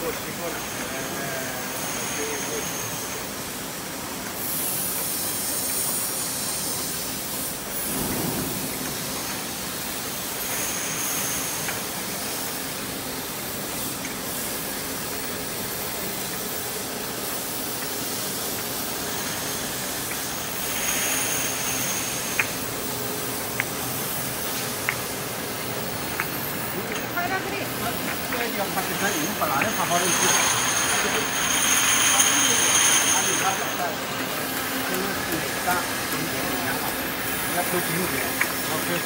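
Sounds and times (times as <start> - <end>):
machinery spray-like hiss: 0.0 - 39.0.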